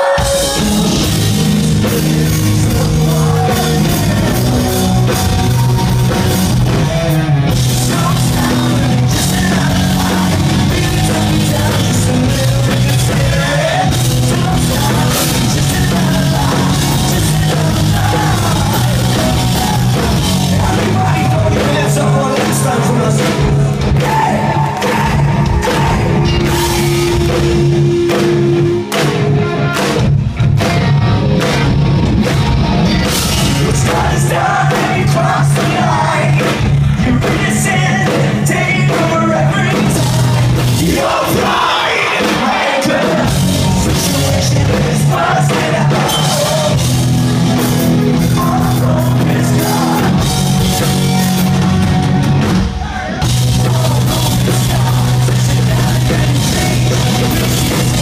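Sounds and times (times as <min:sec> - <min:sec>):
person singing: 0:00.0 - 0:27.7, 0:33.2 - 0:47.0, 0:48.1 - 0:51.7, 0:52.8 - 0:58.0
live rock band playing: 0:00.0 - 0:58.0.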